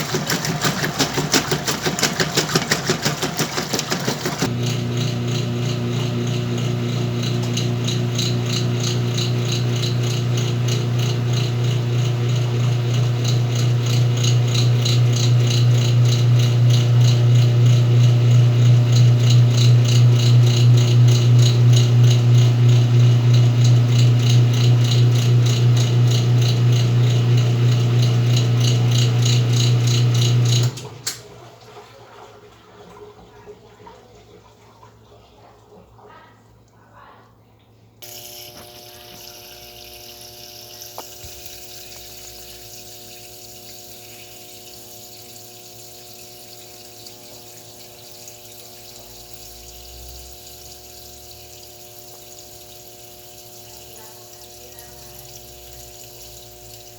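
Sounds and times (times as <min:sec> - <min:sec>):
washing machine running: 0:00.0 - 0:36.6, 0:38.0 - 0:56.9.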